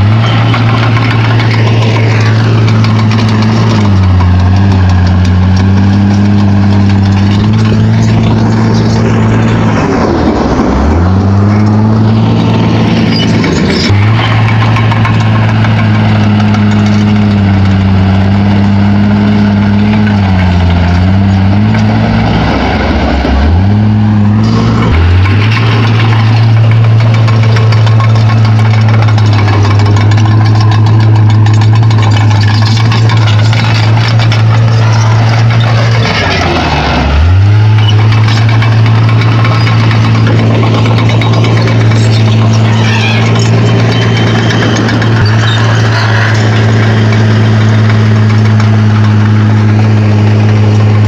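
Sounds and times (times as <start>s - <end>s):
bulldozer diesel engine under load: 0.0s - 51.0s
bulldozer pushing rock and soil: 0.0s - 51.0s.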